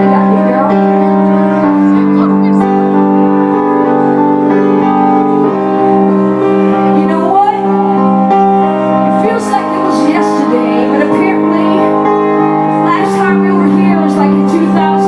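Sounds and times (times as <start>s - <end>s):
held keyboard chords: 0.0s - 15.0s.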